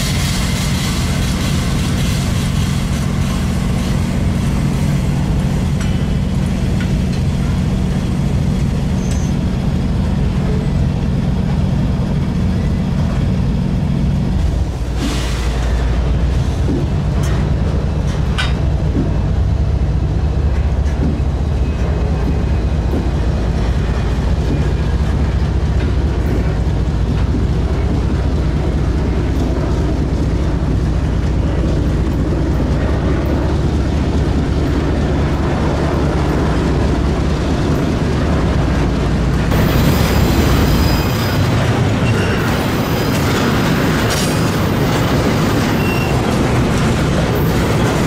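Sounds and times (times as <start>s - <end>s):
diesel locomotive engine drone: 0.0s - 48.0s
freight cars rolling on rails: 0.0s - 48.0s.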